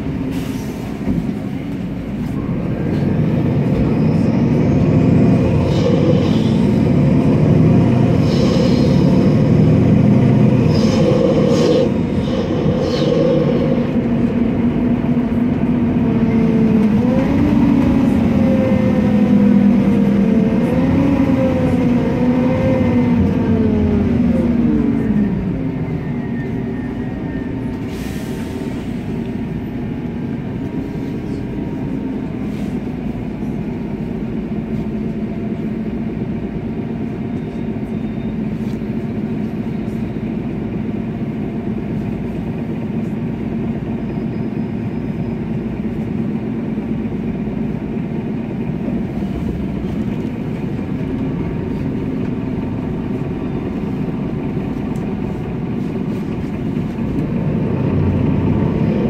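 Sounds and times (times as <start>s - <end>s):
bus engine: 0.0s - 59.0s.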